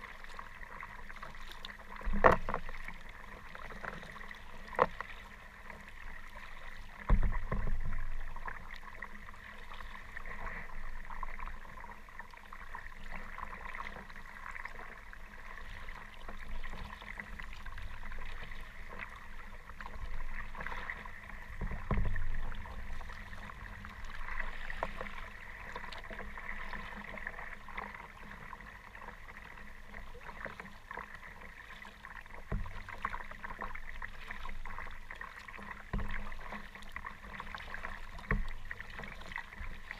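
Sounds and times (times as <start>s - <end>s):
water splashing around kayak paddle: 0.0s - 39.9s.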